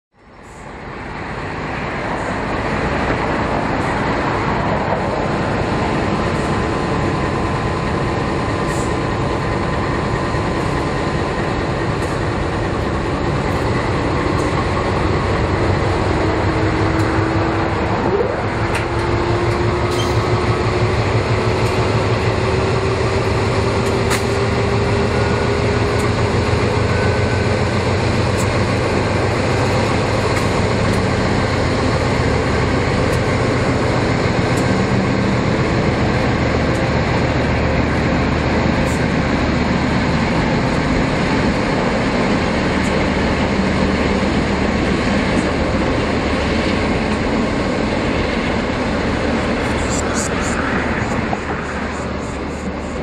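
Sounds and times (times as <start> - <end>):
locomotive engine rumble: 0.1 - 53.0
rising locomotive whine: 0.1 - 53.0.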